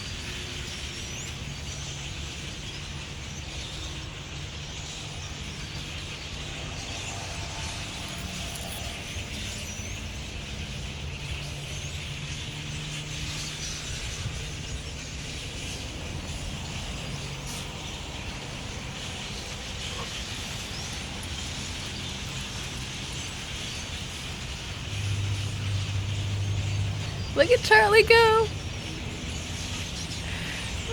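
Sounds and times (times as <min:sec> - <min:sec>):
flock of blackbirds chattering: 0:00.0 - 0:30.9.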